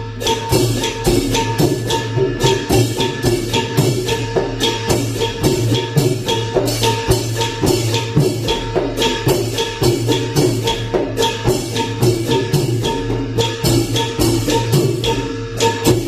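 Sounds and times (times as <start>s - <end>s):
cymbals clashing: 0.0s - 16.0s
long-drum ensemble playing: 0.0s - 16.0s.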